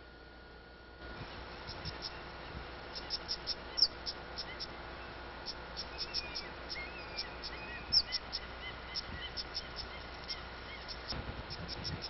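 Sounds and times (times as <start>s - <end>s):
birds and insects chirping: 1.0s - 12.0s
steady hiss: 1.0s - 12.0s.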